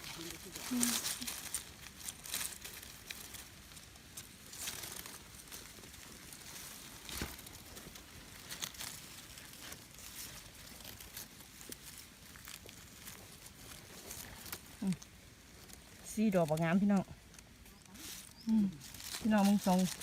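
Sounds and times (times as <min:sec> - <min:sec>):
dry leaves rustling and crackling: 0:00.0 - 0:20.0.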